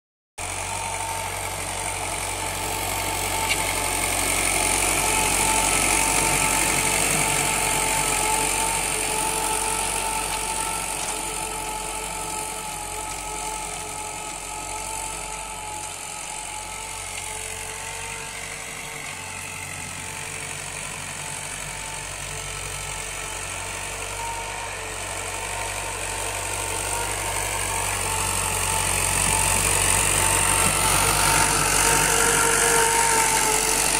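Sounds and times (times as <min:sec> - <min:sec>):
tractor diesel engine under load: 0:00.4 - 0:33.9.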